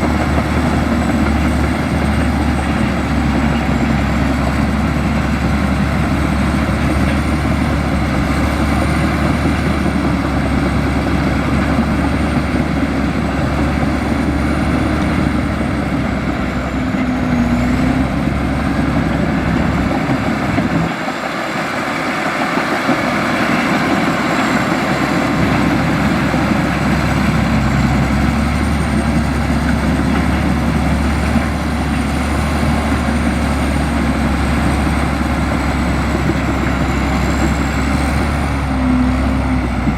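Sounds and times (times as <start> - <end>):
bulldozer diesel engine rumble: 0.0 - 39.9.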